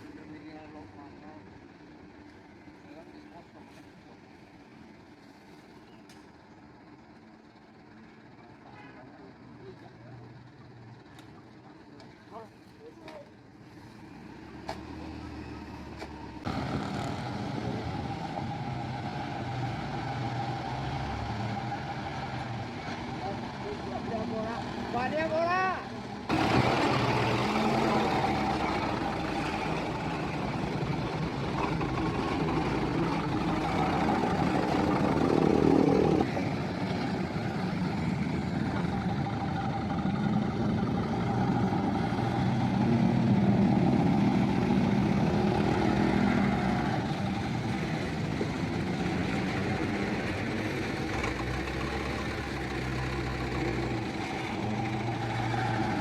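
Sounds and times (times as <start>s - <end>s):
heavy vehicle engine running: 0.0s - 56.0s.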